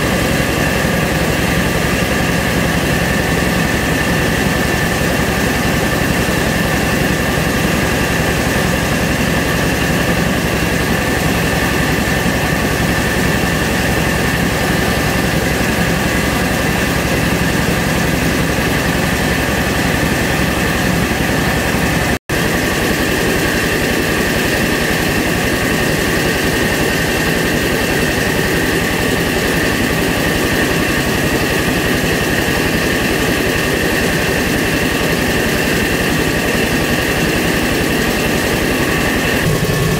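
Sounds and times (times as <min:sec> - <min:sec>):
milling machine drone and whine: 0:00.0 - 0:39.9.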